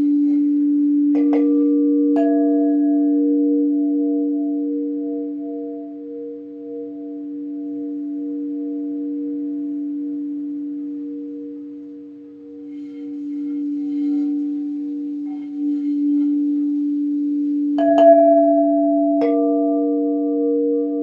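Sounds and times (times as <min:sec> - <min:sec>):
bowl being struck: 0:00.0 - 0:21.0
faint high tinkling: 0:00.0 - 0:21.0
singing bowls ringing: 0:00.0 - 0:21.0.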